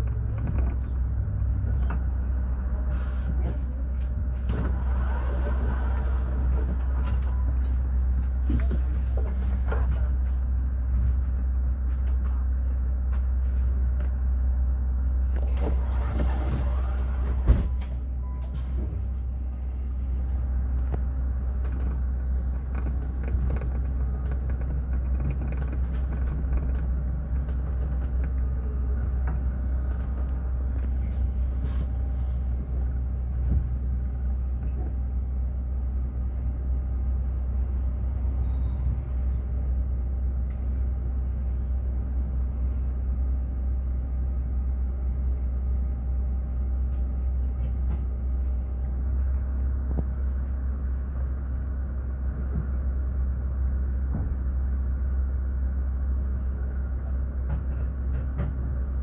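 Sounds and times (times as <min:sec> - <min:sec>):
electric bus rumbling: 0:00.0 - 0:59.0.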